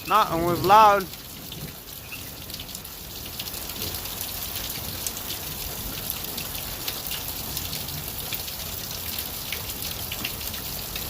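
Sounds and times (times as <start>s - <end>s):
raindrops pattering: 0.0s - 11.0s
steady rain falling: 0.0s - 11.0s.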